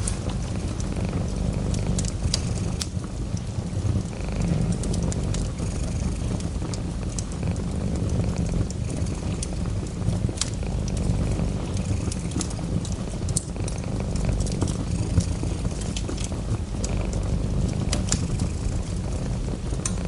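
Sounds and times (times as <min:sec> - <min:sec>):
cat purring: 0:00.0 - 0:20.0
wood fire crackling: 0:00.0 - 0:20.0.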